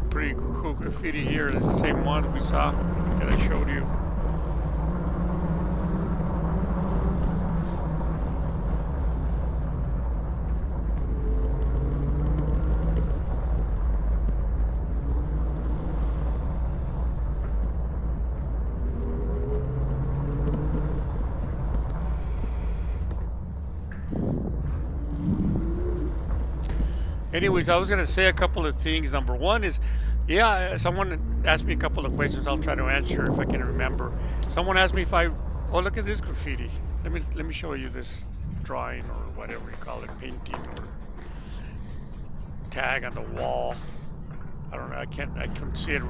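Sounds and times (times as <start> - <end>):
e-bike rumble in a tunnel: 0.0 - 46.0
faint humming tone: 0.0 - 46.0.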